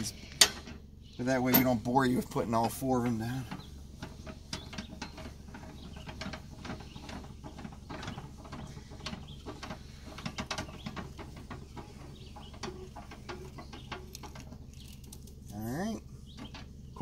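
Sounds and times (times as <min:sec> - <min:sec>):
jack crank clicking and rattling: 0:00.0 - 0:17.0.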